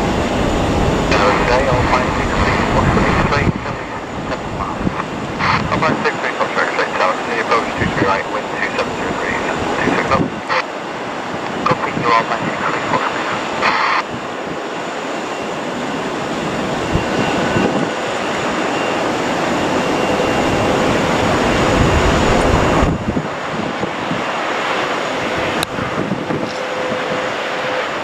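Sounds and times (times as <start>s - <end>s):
airliner engines rushing: 0.0s - 28.0s.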